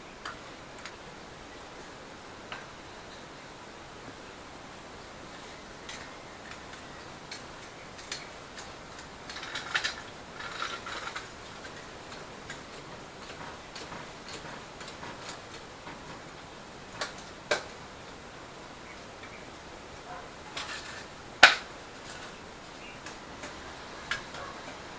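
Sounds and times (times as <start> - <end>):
steady hiss: 0.0 - 24.9.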